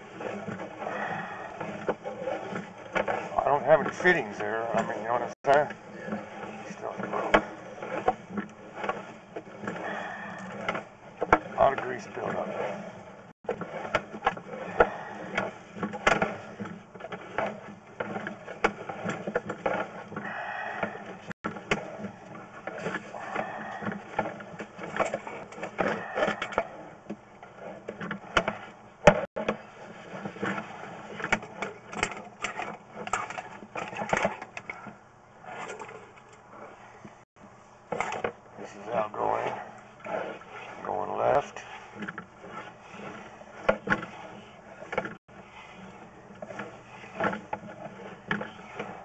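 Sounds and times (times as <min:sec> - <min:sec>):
cable clicking and rattling: 0:00.0 - 0:37.3, 0:37.9 - 0:49.0.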